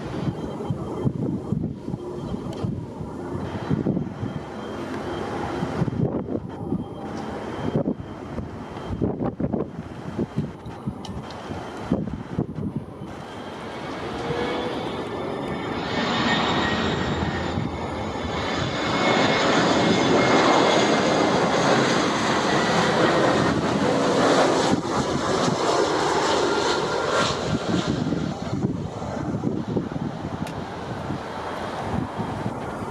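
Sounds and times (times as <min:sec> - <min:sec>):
high jet engine whine: 0:00.0 - 0:32.9
jet engines rushing: 0:00.0 - 0:32.9.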